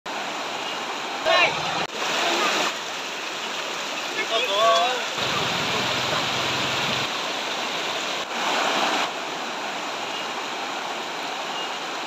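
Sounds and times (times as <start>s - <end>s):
floodwater rushing: 0.1s - 12.0s.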